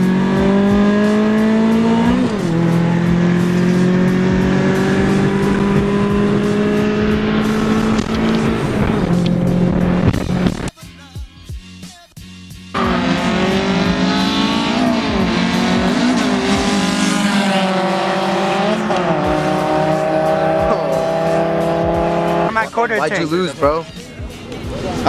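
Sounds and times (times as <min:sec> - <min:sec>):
car engine at full throttle: 0:00.0 - 0:10.7, 0:12.7 - 0:22.6.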